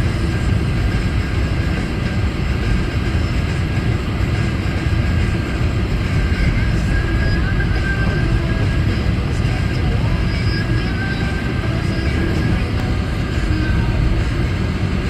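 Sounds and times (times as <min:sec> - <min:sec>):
car driving through snow: 0:00.0 - 0:15.0.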